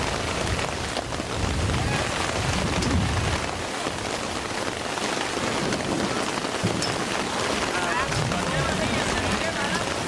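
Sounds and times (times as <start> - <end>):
heavy rain pouring: 0.0 - 10.0
wind rumbling on microphone: 0.0 - 10.0.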